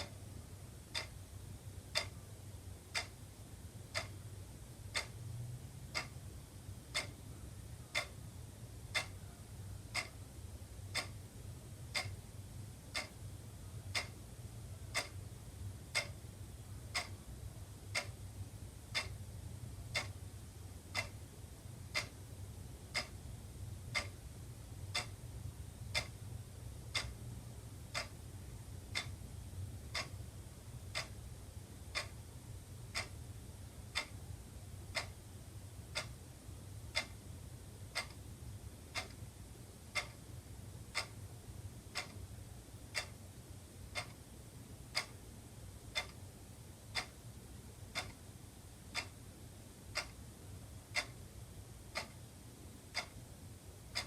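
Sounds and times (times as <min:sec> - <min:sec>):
faint low hum: 0:00.0 - 0:54.0
wall clock ticking: 0:00.0 - 0:54.0.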